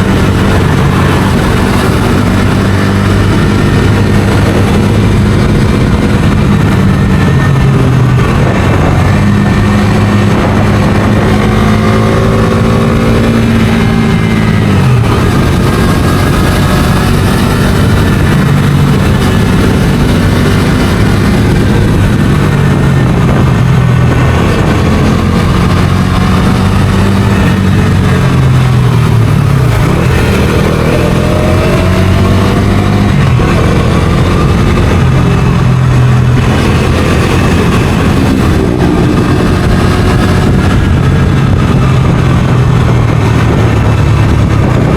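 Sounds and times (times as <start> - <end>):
motorcycle engine accelerating: 0.0 - 44.9
steady rush of noise: 0.0 - 44.9.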